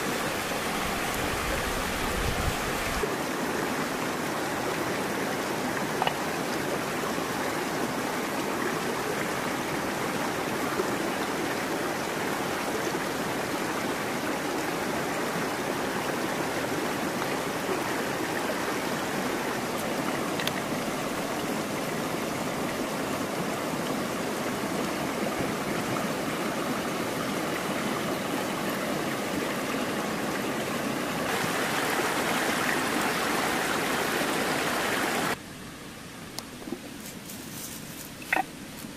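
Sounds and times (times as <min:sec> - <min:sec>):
river water running over stones: 0:00.0 - 0:35.4.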